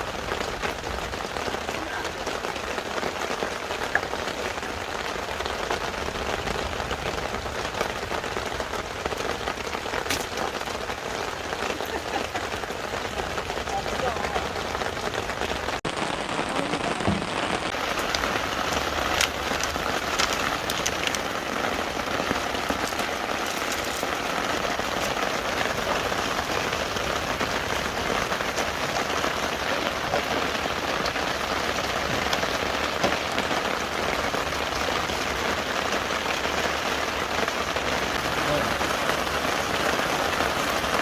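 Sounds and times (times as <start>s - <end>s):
raindrops ticking: 0.0s - 41.0s
steady rain falling: 0.0s - 41.0s.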